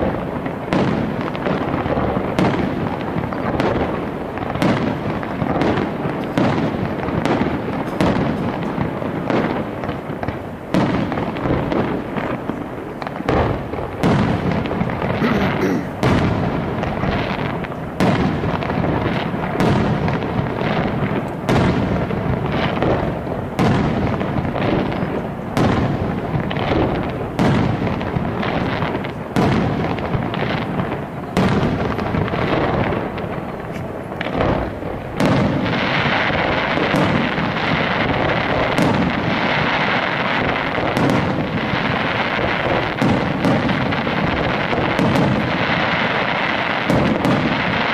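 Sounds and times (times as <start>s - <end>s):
firework shells bursting: 0.0s - 47.9s
fireworks crackling: 0.0s - 47.9s.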